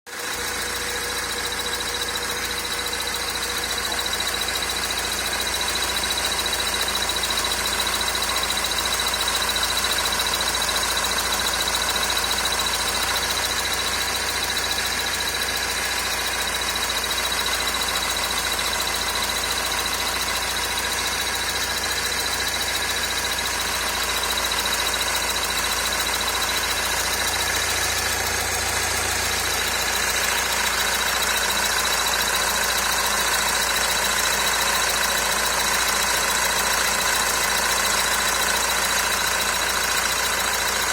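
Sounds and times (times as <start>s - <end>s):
diesel engine running: 0.1s - 40.9s.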